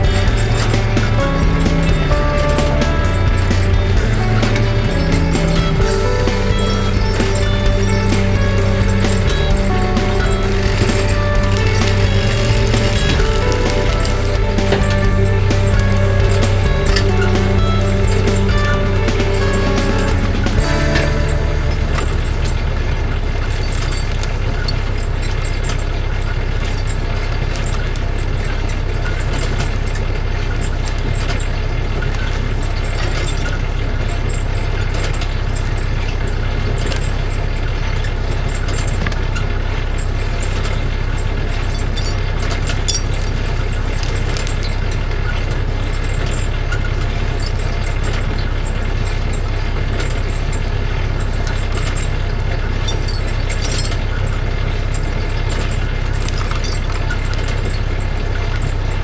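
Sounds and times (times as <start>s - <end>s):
knocks and rattles: 0.0s - 59.0s
vehicle engine running steadily: 0.0s - 59.0s.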